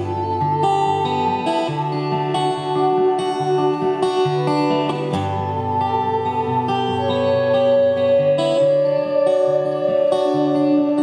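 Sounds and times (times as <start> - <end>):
acoustic guitar: 0.0 - 11.0
electric guitar: 0.0 - 11.0.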